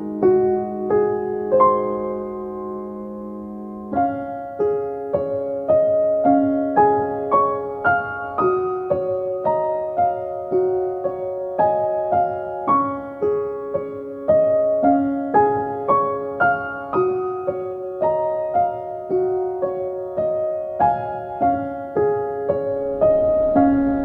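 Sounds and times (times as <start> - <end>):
soft piano music: 0.0 - 24.0.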